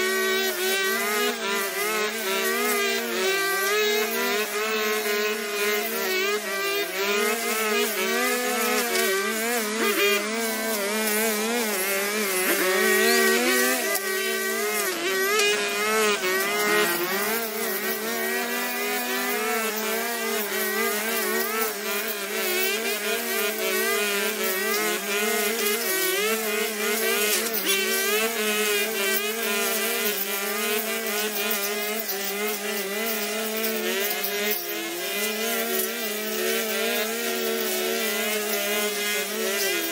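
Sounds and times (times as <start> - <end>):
brush cutters cutting grass: 0.0 - 39.9.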